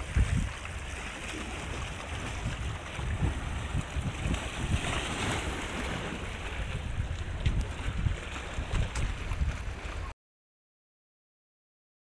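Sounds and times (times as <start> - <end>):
water lapping around rocks: 0.0 - 10.1
wind on microphone: 0.0 - 10.1.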